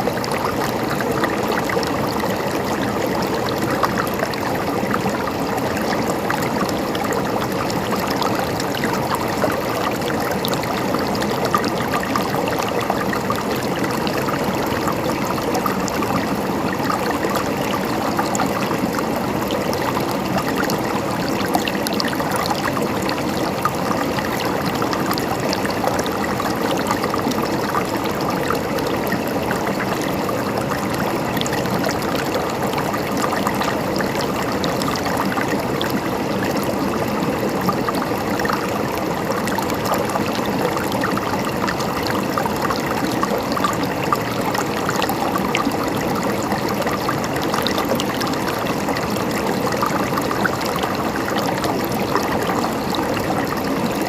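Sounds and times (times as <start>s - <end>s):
water gurgling and trickling: 0.0s - 54.0s.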